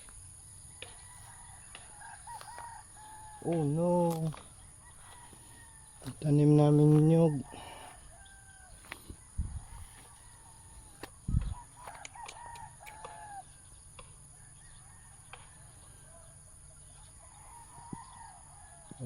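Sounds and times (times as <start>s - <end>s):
rooster crowing: 0.2s - 19.0s.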